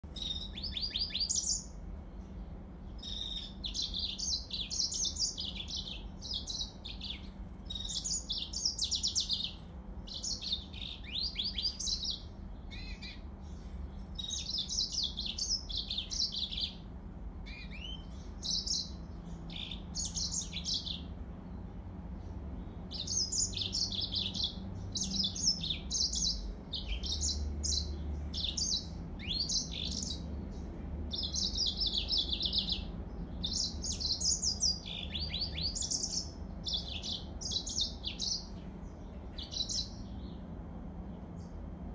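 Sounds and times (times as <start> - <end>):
canary singing: 0.0 - 1.8, 2.8 - 21.7, 22.8 - 40.5.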